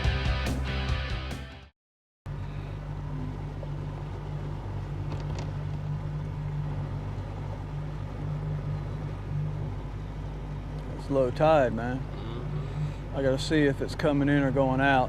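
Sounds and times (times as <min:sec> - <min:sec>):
vehicle engine and road hum: 0:02.3 - 0:15.0.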